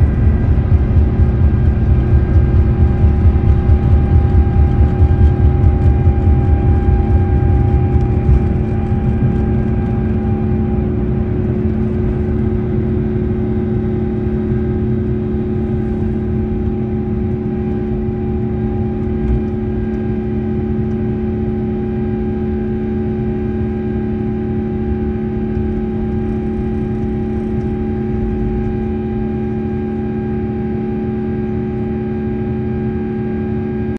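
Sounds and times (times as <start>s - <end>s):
humming fan tones: 0.0s - 33.9s
jet engine roar in cabin: 0.0s - 33.9s.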